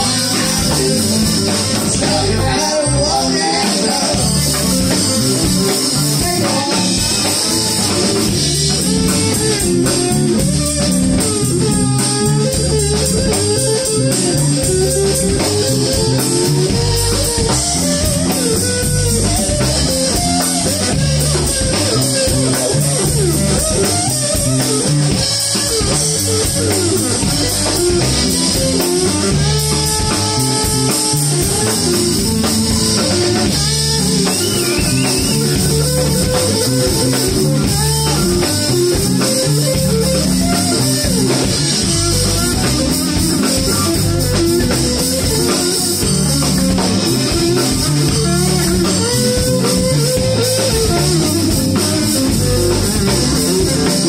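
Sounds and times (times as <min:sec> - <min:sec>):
bass guitar: 0:00.0 - 0:54.0
drum kit: 0:00.0 - 0:54.0
electric guitar lead: 0:00.0 - 0:54.0.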